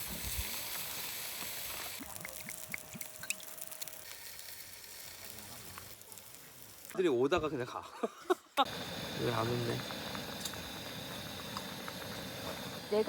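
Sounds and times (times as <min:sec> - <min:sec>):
hiss like running water: 0:00.0 - 0:07.0, 0:08.6 - 0:13.0.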